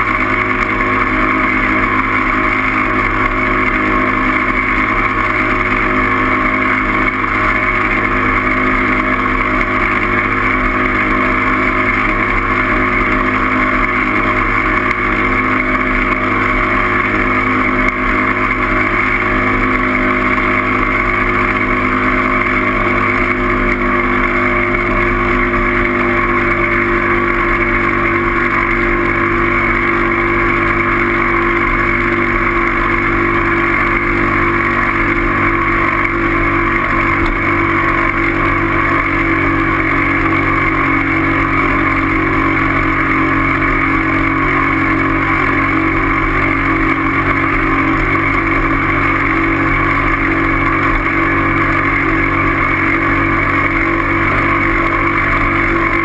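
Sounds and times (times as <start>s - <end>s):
vehicle hum: 0.0s - 56.0s.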